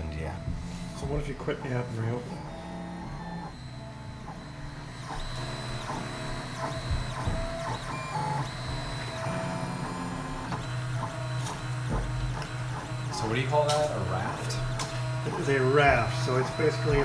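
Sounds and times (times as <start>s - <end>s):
steady low hum: 0.0s - 17.0s
stepper motors whining: 0.0s - 17.0s.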